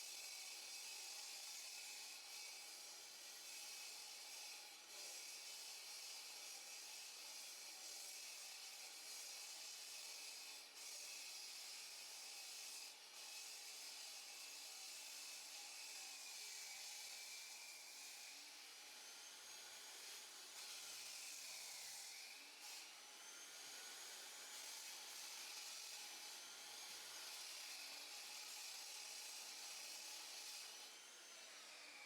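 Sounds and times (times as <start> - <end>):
power saw cutting concrete: 0.0 - 32.0.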